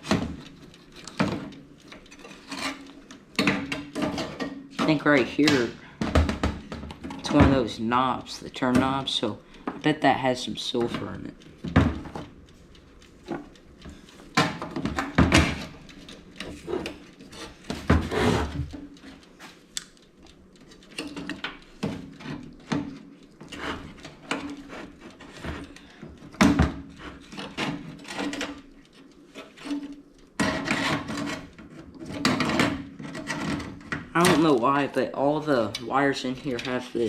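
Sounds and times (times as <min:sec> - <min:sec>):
sheet-metal parts clicking and rattling: 0:00.0 - 0:19.3, 0:20.2 - 0:37.0.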